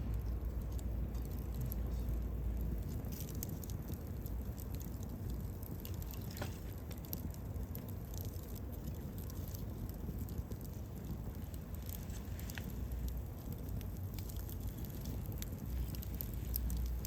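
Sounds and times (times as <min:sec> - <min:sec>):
campfire crackling: 0:00.0 - 0:17.0
rush of flames: 0:00.0 - 0:17.0.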